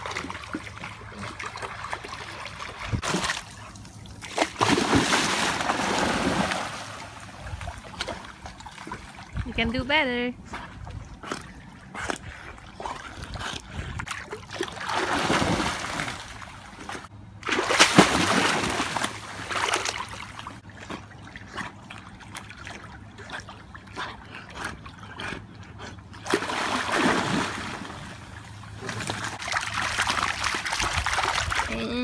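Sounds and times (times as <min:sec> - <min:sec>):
dog swimming and splashing water: 0:00.0 - 0:32.0.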